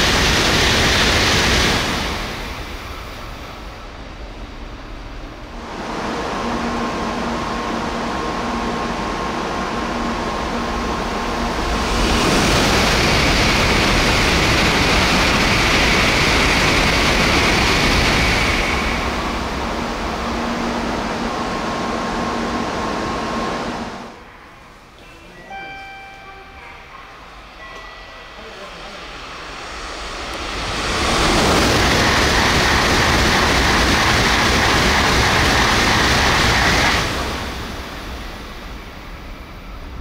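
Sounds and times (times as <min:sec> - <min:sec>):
train rushing past: 0:00.0 - 0:40.0.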